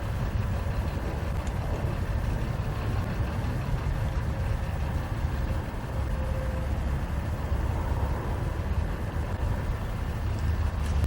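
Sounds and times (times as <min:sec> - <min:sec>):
diesel locomotives rumbling: 0:00.0 - 0:11.0.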